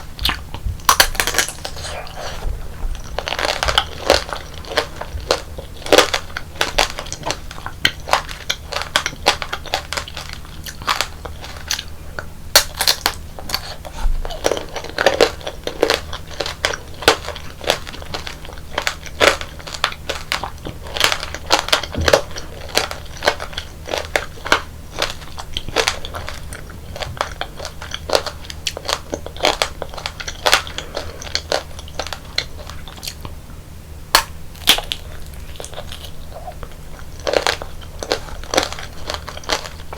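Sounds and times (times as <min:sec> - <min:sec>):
candy shell crunching: 0:00.2 - 0:33.3, 0:34.1 - 0:39.9
chewing: 0:00.2 - 0:33.6, 0:34.2 - 0:39.9.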